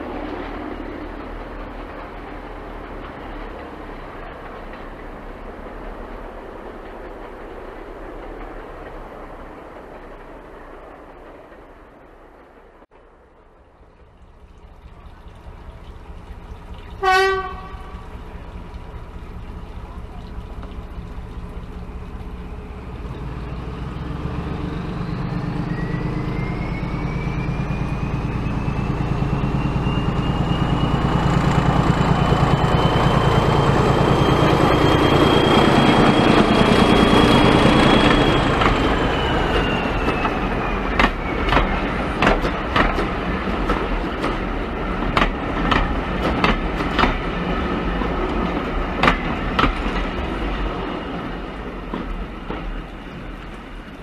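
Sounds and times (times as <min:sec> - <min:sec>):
wheels clicking on rail joints: 0:00.0 - 0:25.8, 0:31.0 - 0:54.0
diesel train running: 0:00.0 - 0:54.0
train whine: 0:00.0 - 0:54.0.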